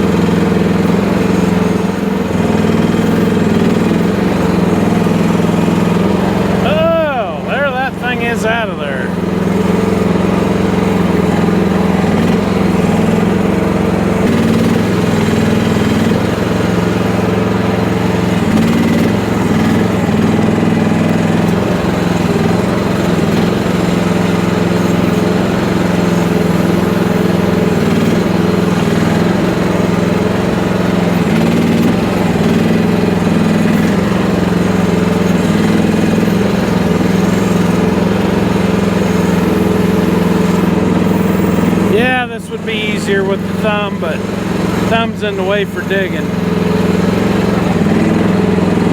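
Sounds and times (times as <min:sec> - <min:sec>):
excavator engine running: 0:00.0 - 0:48.9.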